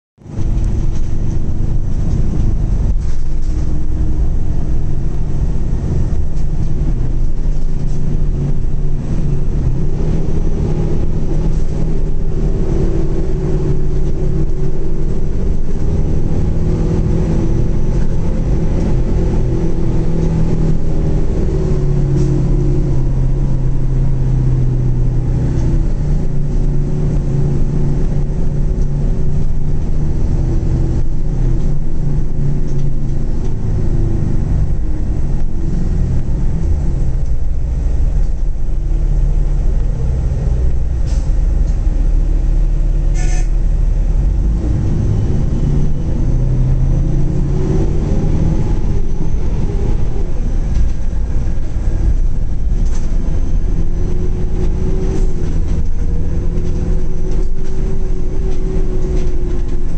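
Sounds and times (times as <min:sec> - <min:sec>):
coach engine rumbling: 0:00.2 - 0:59.9.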